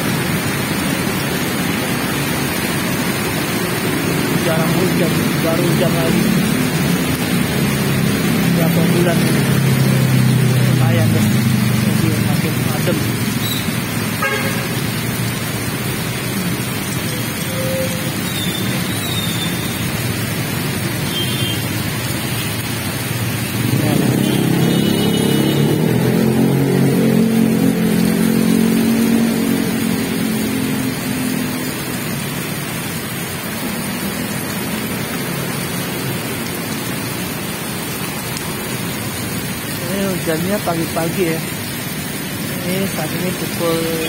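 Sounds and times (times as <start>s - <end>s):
heavy rain on road: 0.0s - 44.0s.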